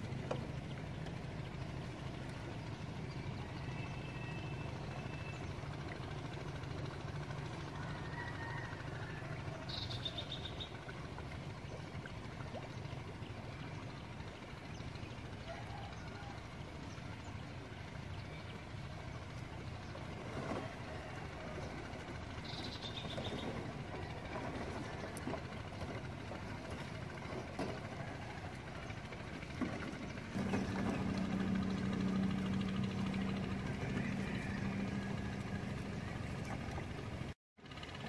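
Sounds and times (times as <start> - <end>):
water sloshing: 0.0 - 37.4
low engine hum: 0.0 - 38.0.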